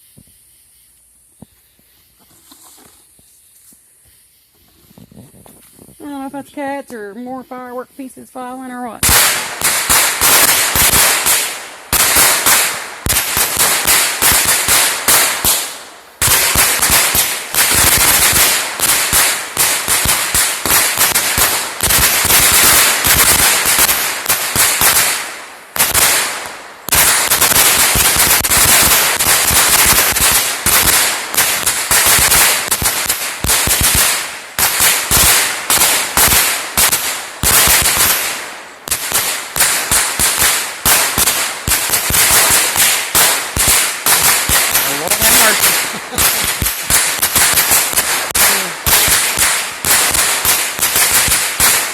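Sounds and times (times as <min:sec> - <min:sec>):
firecrackers crackling: 0:00.0 - 0:51.9.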